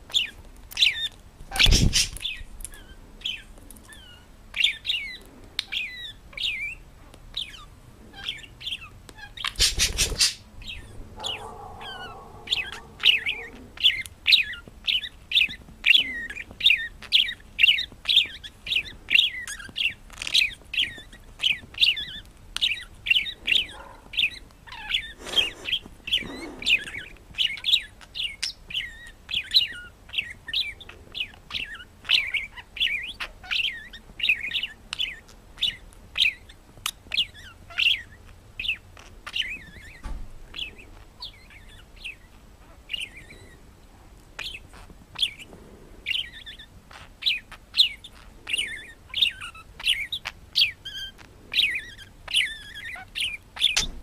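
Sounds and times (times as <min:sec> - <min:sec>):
budgerigar chirping: 0:00.1 - 0:43.6, 0:44.4 - 0:54.0.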